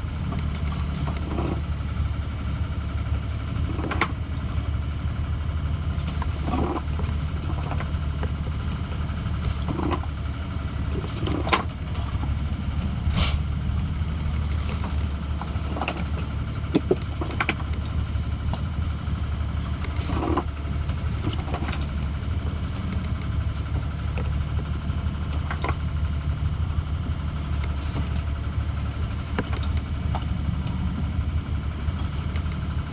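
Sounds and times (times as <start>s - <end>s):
steady low drone: 0.0s - 32.9s.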